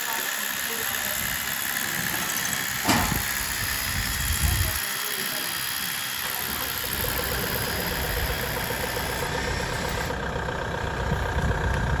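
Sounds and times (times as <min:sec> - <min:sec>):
engine running with low rumble: 0:00.1 - 0:12.0.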